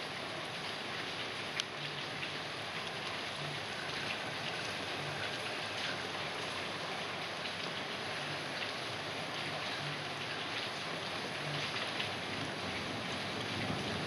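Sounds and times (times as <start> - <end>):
steady rain: 0.0 - 14.0
water drips: 0.0 - 14.0.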